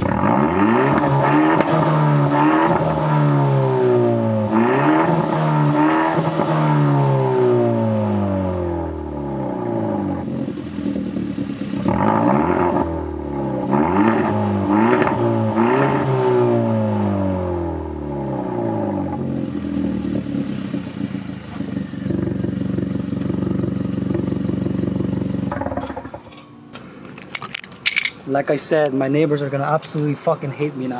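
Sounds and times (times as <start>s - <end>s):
loud car engine revving: 0.0s - 26.1s.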